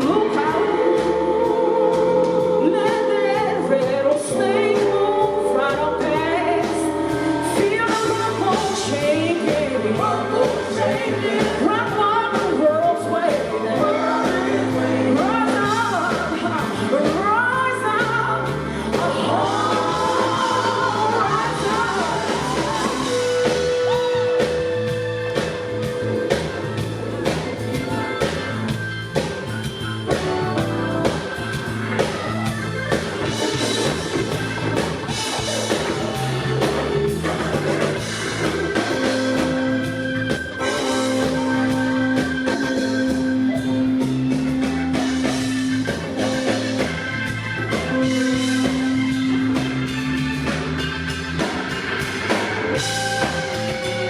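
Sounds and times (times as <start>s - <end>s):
blues rock band playing: 0.0s - 54.0s.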